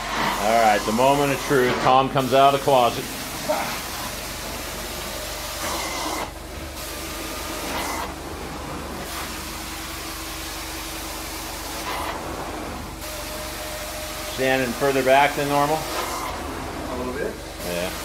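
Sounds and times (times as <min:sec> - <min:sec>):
carpet cleaning wand hissing: 0:00.0 - 0:16.6.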